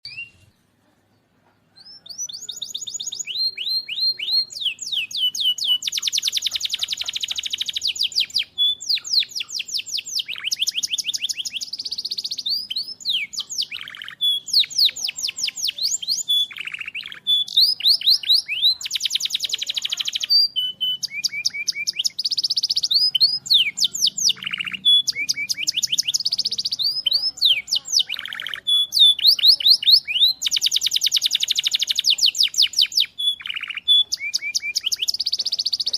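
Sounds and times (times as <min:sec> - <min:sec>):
bird singing fast trills: 0:00.0 - 0:00.6, 0:01.8 - 0:35.9.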